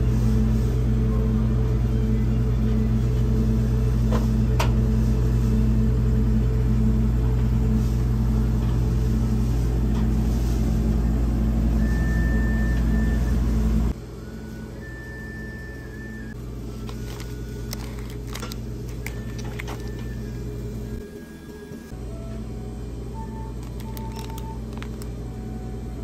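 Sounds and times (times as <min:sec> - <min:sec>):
loud low hum: 0:00.0 - 0:26.0.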